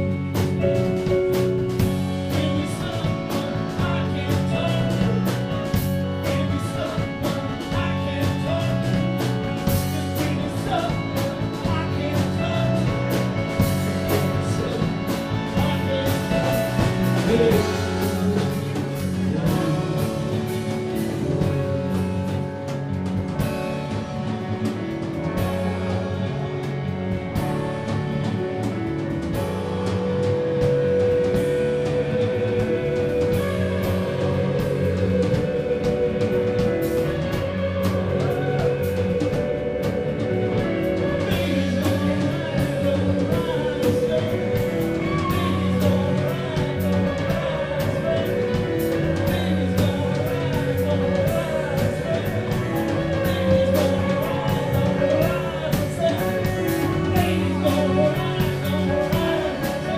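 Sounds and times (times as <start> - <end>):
bass guitar: 0.0 - 59.9
drum kit beat: 0.0 - 59.9
electric guitar: 0.0 - 59.9
person singing long wavering notes: 2.1 - 22.5, 30.3 - 59.9.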